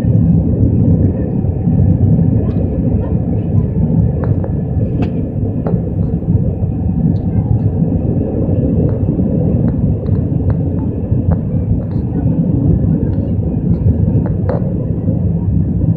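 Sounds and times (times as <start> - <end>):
faint steady whines: 0.0 - 15.9
jet engine cabin rumble: 0.0 - 15.9.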